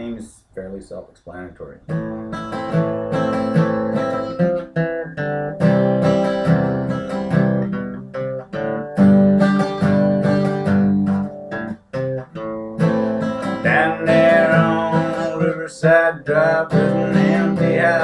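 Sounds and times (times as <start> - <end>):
acoustic guitar strumming: 1.9 - 18.0.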